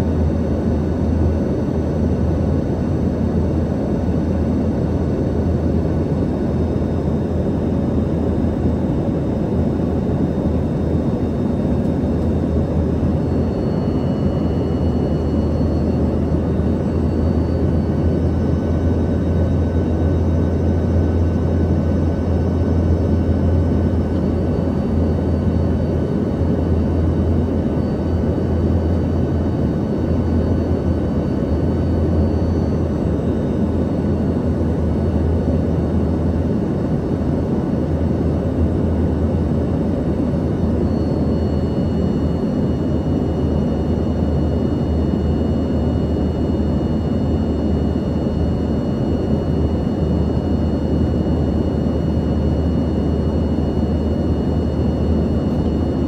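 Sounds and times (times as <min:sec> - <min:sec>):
faint whine tones: 0:00.0 - 0:56.0
jet engine drone and airflow: 0:00.0 - 0:56.0.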